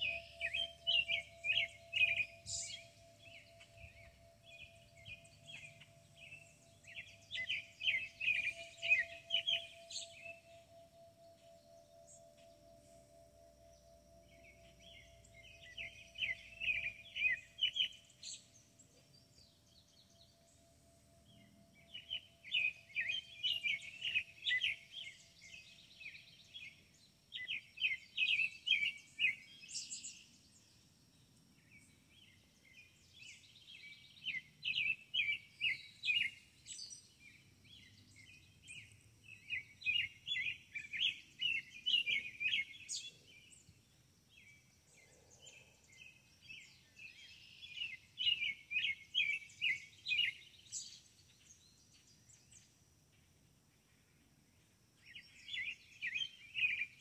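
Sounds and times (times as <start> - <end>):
outdoor background noise: 0.0 - 57.0
songbird chirping: 0.0 - 57.0.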